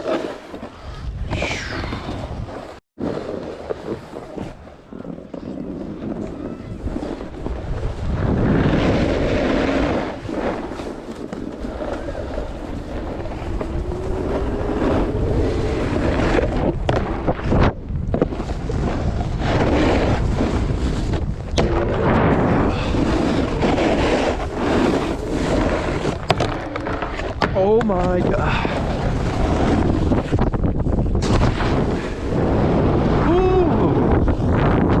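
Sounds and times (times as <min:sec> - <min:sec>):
wind buffeting microphone: 0:00.8 - 0:35.0.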